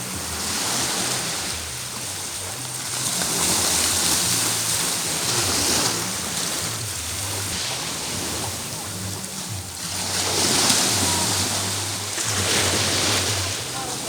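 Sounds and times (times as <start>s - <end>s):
surf washing onto beach: 0.0s - 14.0s.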